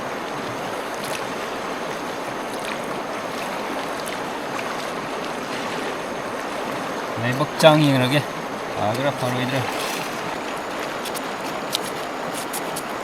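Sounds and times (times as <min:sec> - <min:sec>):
river water flowing over rocks: 0:00.0 - 0:13.0.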